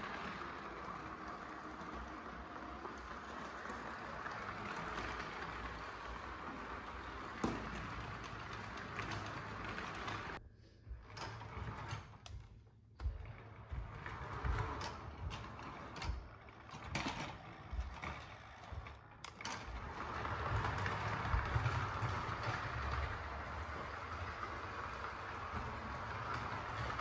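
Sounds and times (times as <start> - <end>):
toy train clicks and rattles: 0.0 - 10.4, 14.1 - 27.0
toy train motor whirring: 0.0 - 10.4, 14.3 - 27.0.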